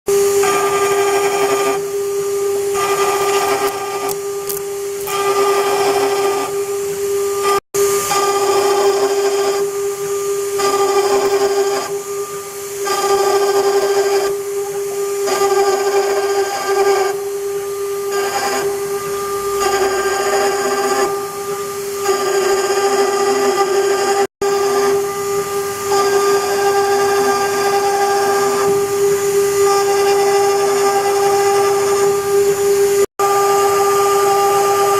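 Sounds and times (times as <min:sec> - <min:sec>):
router spindle whine: 0:00.1 - 0:34.9.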